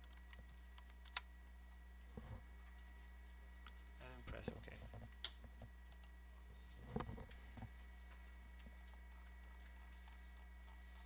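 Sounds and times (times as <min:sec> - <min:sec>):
low hum of room noise: 0:00.0 - 0:11.0.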